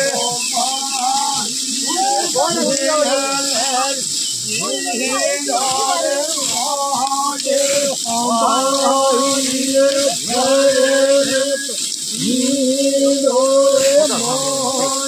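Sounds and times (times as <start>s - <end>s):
person singing long held notes: 0.0s - 15.0s.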